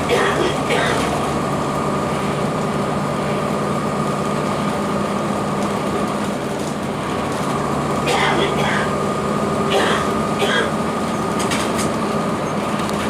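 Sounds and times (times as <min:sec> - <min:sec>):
diesel bus engine running: 0:00.0 - 0:13.0.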